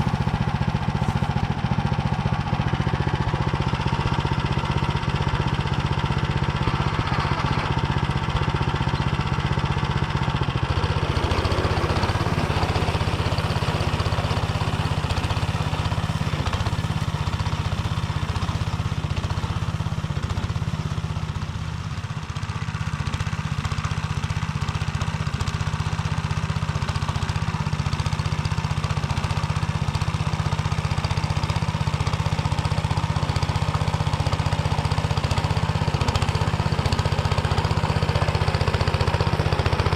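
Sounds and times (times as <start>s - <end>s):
rotary tiller milling stubble: 0.0s - 39.9s
tractor engine under load: 0.0s - 39.9s.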